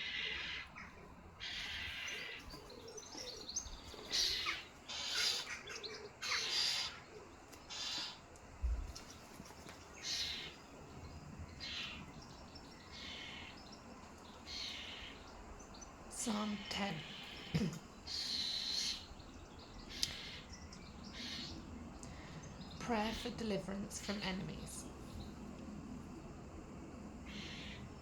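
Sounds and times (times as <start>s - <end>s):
wild birds singing: 0.0s - 28.0s.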